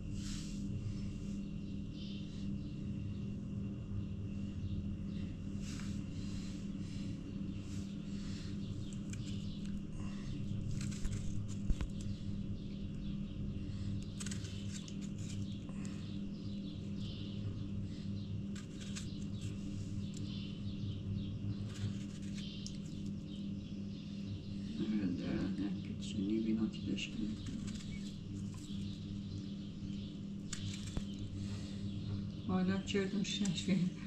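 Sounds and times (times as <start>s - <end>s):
steady low hum: 0.0s - 34.0s
birds chirping: 0.6s - 34.0s.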